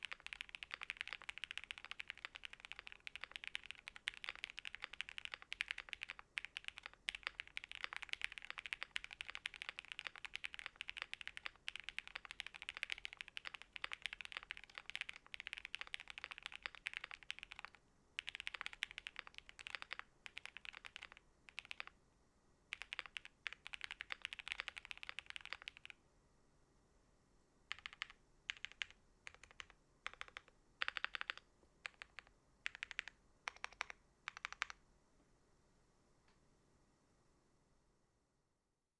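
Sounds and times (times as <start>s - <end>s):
mechanical keyboard typing: 0.0s - 21.9s, 22.7s - 26.0s, 27.7s - 34.8s.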